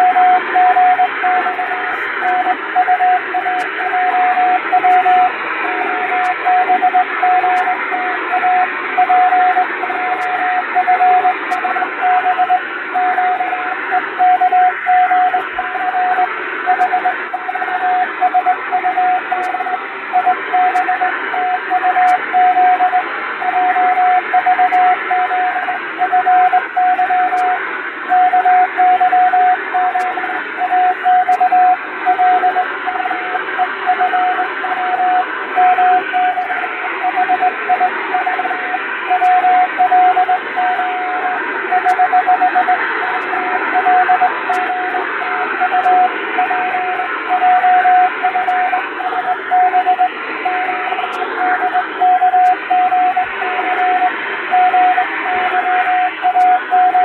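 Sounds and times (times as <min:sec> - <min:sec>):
morse code tone: 0:00.0 - 0:57.0.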